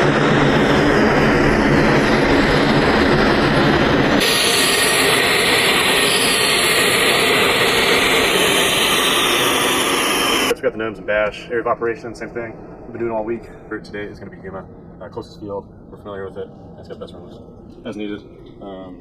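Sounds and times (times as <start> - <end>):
military aircraft noise: 0.0 - 19.0.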